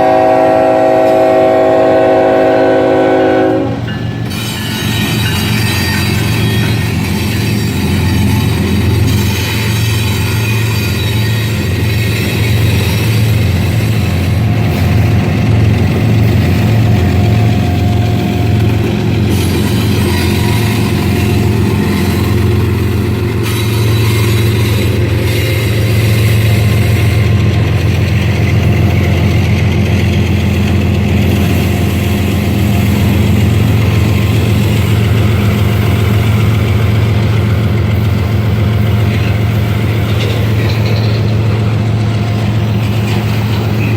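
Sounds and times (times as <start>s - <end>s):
diesel locomotive engine rumbling: 0.0s - 43.9s.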